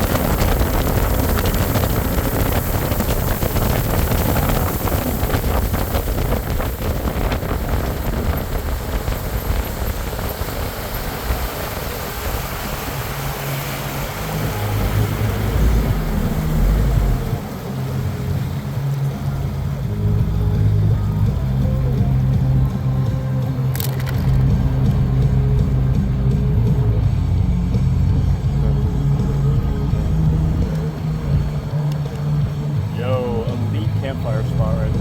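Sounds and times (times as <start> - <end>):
motorboat running: 0.0 - 35.0
music with low bass line: 0.0 - 35.0
wind buffeting microphone: 0.0 - 35.0.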